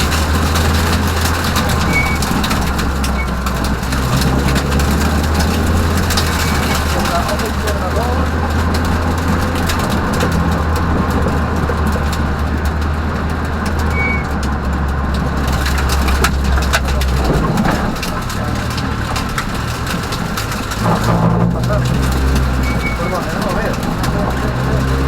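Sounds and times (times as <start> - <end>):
car engine droning from inside: 0.0 - 25.0
rain and debris striking car: 0.0 - 25.0.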